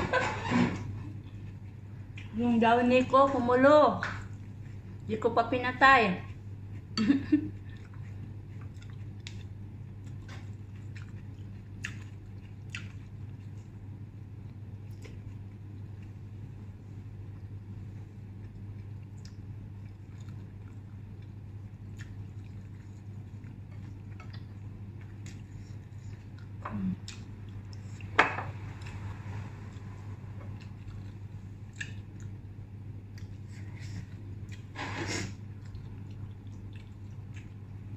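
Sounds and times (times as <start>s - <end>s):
low hum: 0.0s - 37.9s
person chewing noodles: 6.3s - 29.0s, 29.7s - 34.7s, 35.3s - 37.9s.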